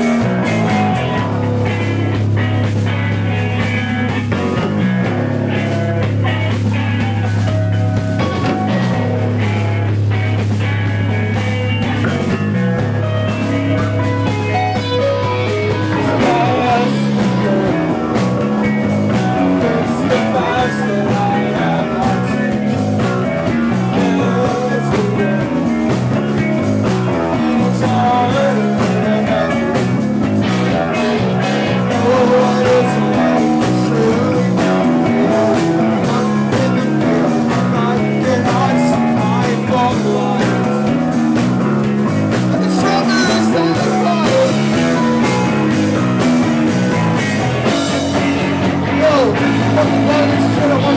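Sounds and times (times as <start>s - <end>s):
bass guitar: 0.0s - 50.9s
drum kit: 0.0s - 50.9s
electric guitars: 0.0s - 50.9s.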